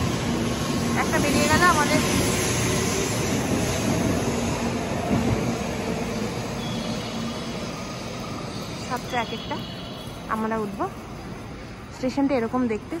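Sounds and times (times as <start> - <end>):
train running noise: 0.0 - 13.0.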